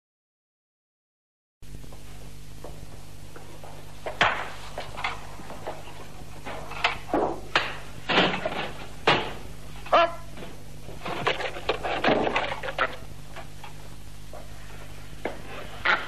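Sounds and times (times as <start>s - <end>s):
steady low hum: 1.6s - 16.0s.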